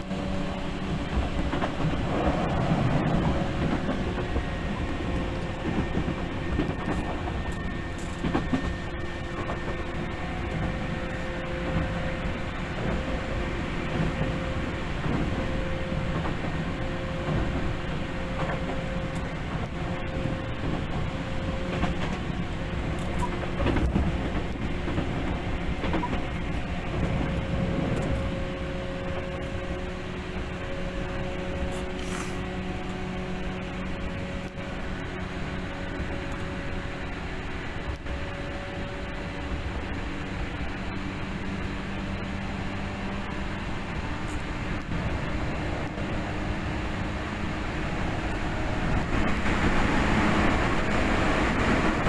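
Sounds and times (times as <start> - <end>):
running gear hum: 0.0 - 52.0
train wheels rumbling on rail: 0.0 - 52.0.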